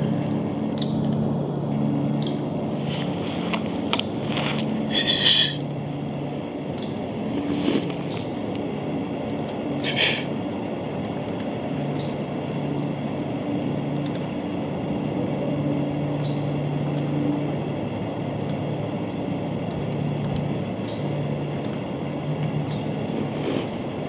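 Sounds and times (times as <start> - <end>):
constant rumbling noise: 0.0 - 24.0
intermittent hum: 0.0 - 24.0
low mechanical drone: 0.0 - 24.0.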